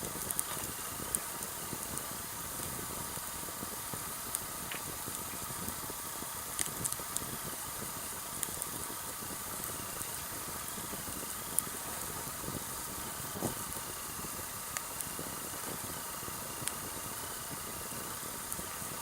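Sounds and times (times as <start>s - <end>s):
campfire flames hissing: 0.0s - 19.0s
fire crackles and pops: 0.0s - 19.0s.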